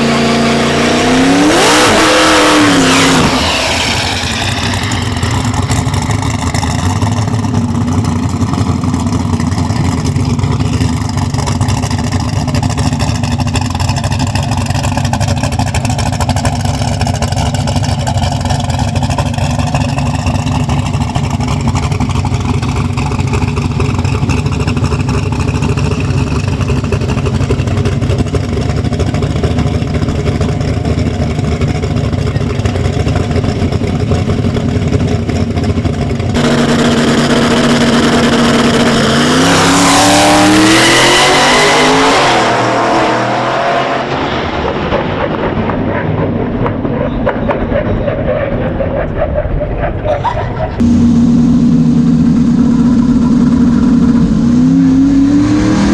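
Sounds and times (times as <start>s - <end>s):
truck engine droning: 0.0s - 55.9s.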